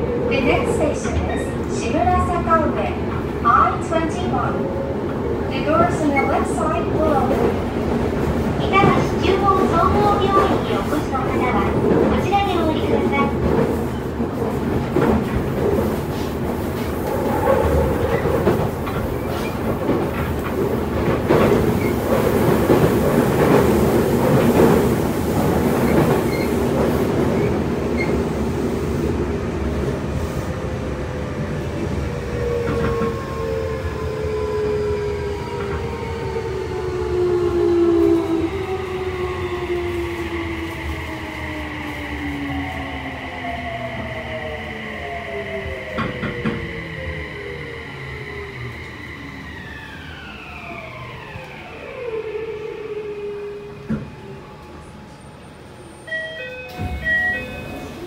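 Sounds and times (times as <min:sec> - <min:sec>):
train wheels running on rails: 0:00.5 - 0:52.1, 0:53.7 - 0:58.0.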